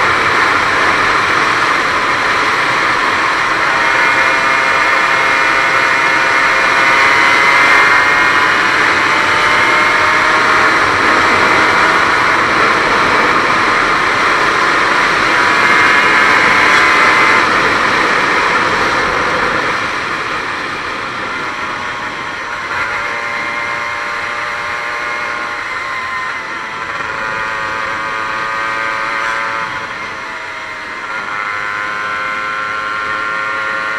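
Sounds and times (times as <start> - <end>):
rush of noise: 0.0 - 33.9
two-stroke motorcycle engine: 0.0 - 33.9.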